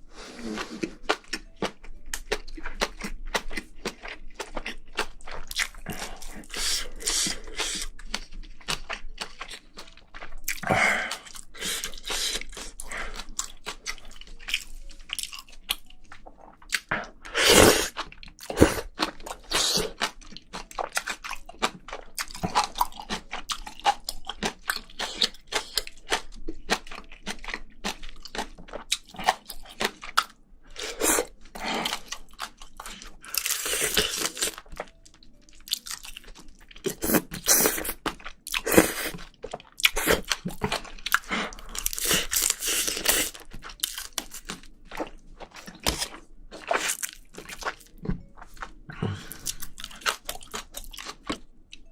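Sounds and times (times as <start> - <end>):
person chewing and crunching: 0.2 - 51.9.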